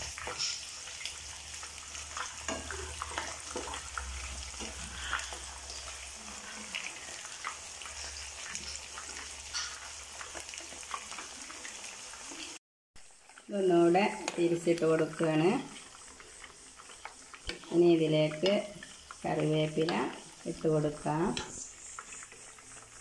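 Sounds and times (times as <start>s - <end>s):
chicken frying in oil: 0.0s - 23.0s.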